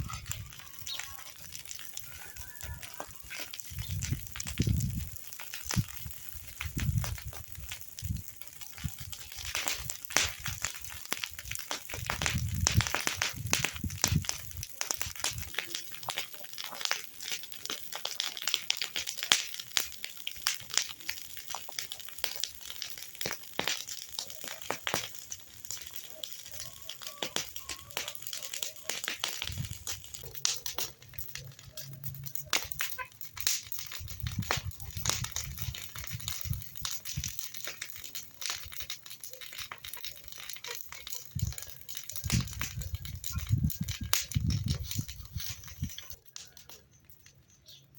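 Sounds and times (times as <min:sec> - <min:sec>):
rustling and crackling: 0:00.0 - 0:47.9.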